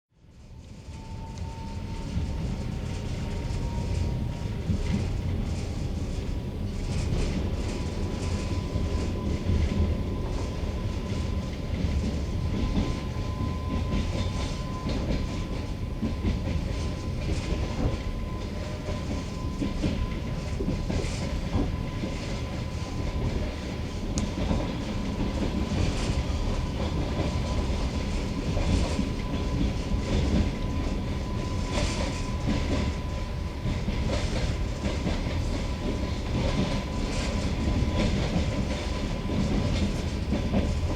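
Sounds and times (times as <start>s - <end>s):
train wheels clattering over rails: 0.9s - 40.9s.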